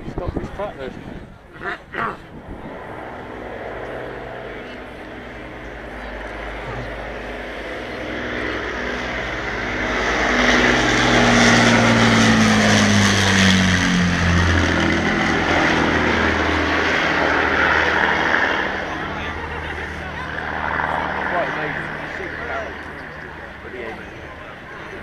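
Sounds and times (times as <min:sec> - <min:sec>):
propeller aircraft flying by: 0:00.0 - 0:25.0.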